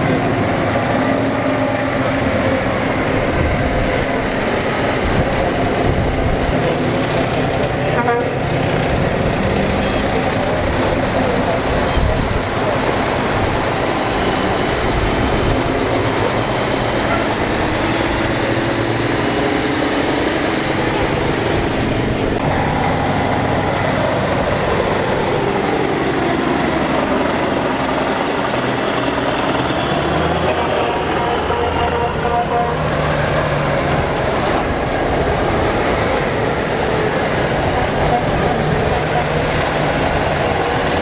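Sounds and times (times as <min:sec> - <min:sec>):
heavy trucks driving past: 0:00.0 - 0:41.0.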